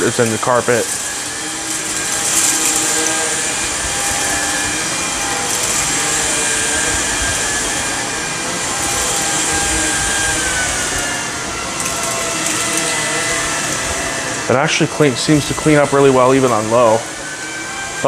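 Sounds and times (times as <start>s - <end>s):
hiss of air and grit: 0.0s - 18.0s
vacuum motor whine: 0.0s - 18.0s.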